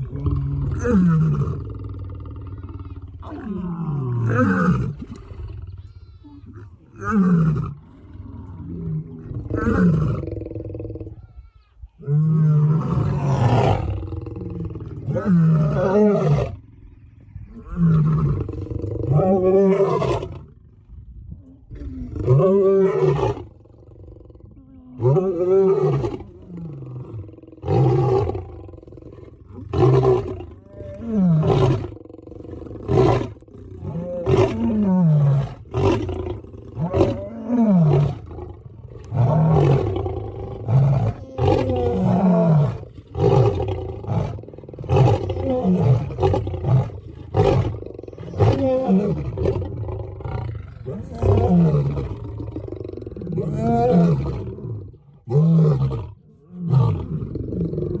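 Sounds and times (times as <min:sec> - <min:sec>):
lion roaring and grunting: 0:00.0 - 0:05.8, 0:06.5 - 0:11.2, 0:12.0 - 0:20.6, 0:21.6 - 0:58.0.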